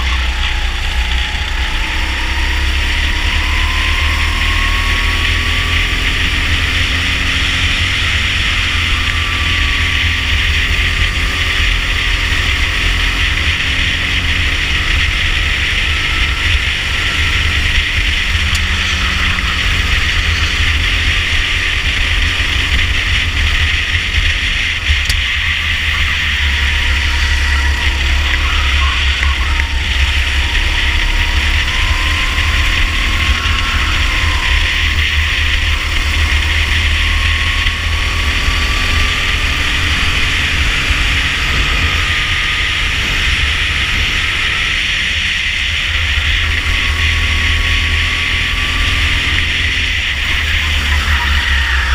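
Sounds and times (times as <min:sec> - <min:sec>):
kart engine running: 0:00.0 - 0:51.9
wind rumble on microphone: 0:00.0 - 0:51.9.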